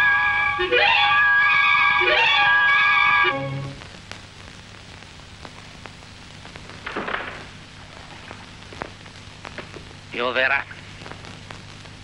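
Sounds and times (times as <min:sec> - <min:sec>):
film soundtrack hiss and crackles: 0:00.0 - 0:12.0
low steady hum: 0:00.0 - 0:12.0.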